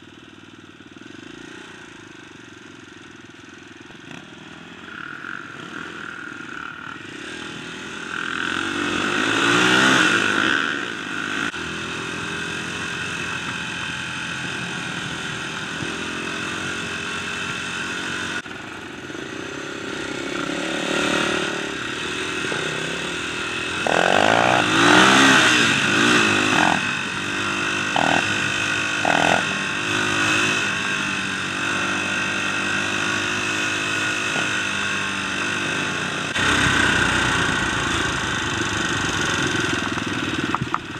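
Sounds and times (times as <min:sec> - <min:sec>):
dirt bike engine revving: 0:01.0 - 0:40.9.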